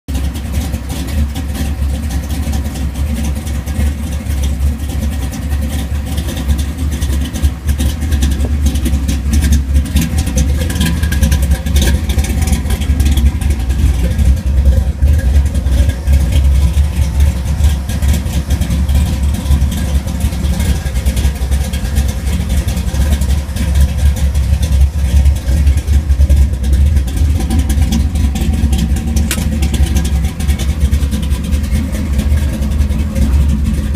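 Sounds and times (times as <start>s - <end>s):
v-eight engine running: 0.1s - 33.9s.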